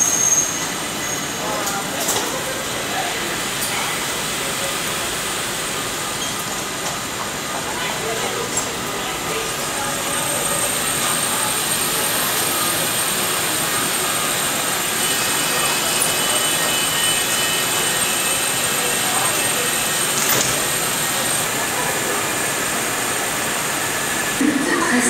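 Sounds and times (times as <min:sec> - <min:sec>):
train humming at platform: 0:00.0 - 0:25.0
murmur of voices: 0:00.9 - 0:25.0.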